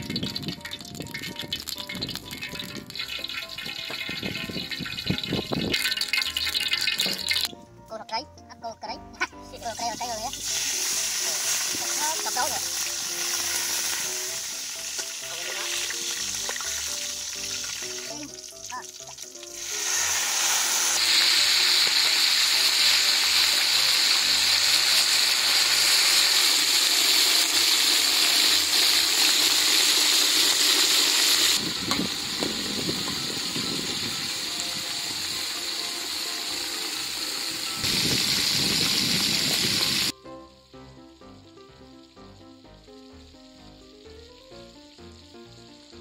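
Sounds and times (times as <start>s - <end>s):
oil sizzling in a wok: 0.0s - 7.6s, 9.3s - 46.0s.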